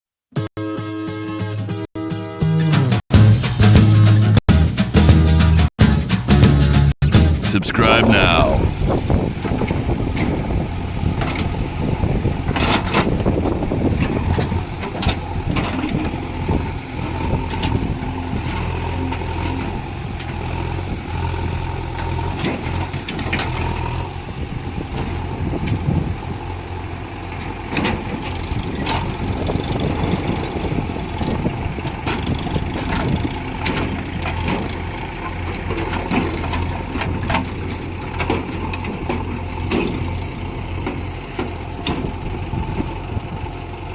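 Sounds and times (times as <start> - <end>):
diesel engine running: 8.7 - 43.9.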